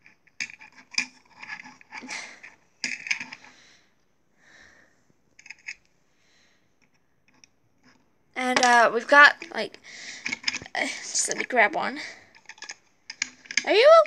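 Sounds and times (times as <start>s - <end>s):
plastic toys clicking and knocking: 0.0s - 3.5s, 5.3s - 5.9s, 6.8s - 14.0s.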